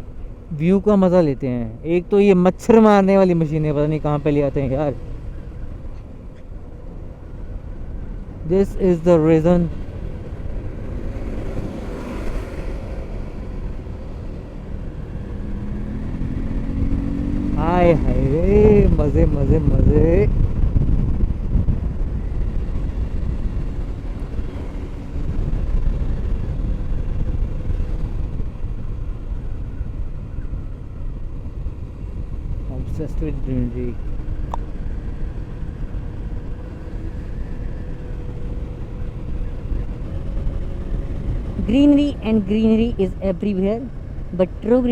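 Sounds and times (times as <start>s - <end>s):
motorcycle engine: 0.0s - 44.9s
road noise: 0.0s - 44.9s
wind rushing over microphone: 1.6s - 44.9s.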